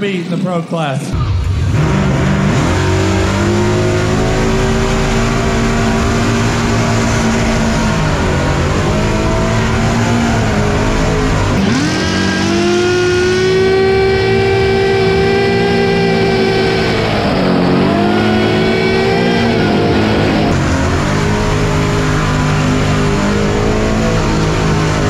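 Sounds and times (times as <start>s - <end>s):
car engine revving hard: 1.4s - 25.0s.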